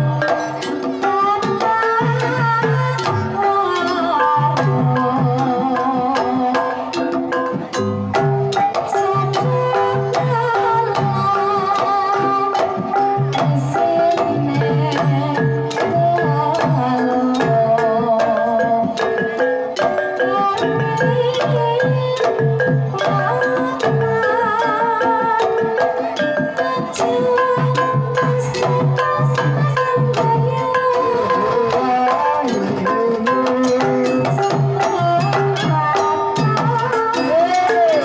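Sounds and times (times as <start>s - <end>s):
woman singing: 0.0s - 7.2s, 8.4s - 38.0s
hand drums beating: 0.0s - 38.0s
struck metallophones: 0.0s - 38.0s.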